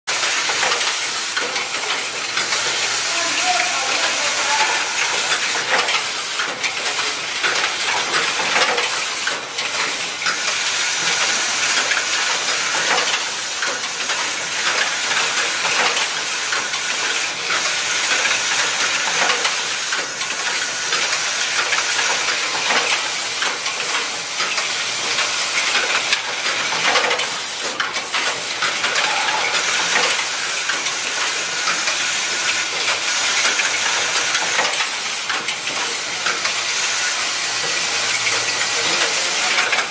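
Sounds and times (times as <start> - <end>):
hissing rattle of metal parts: 0.1 - 39.9
machine clicks and clacks: 0.1 - 39.9.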